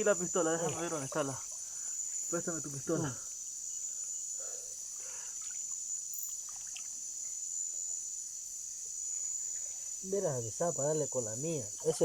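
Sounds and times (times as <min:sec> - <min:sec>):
chorus of night insects: 0:00.0 - 0:12.0.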